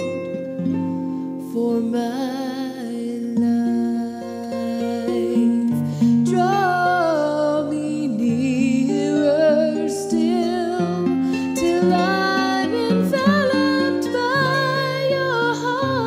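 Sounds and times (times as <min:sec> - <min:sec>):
plucked-string chords: 0:00.0 - 0:16.0.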